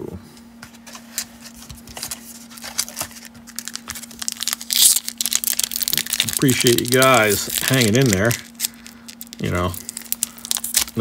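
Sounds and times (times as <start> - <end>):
faint steady hum: 0.0 - 11.0
wrapper crinkling and tearing: 2.0 - 11.0.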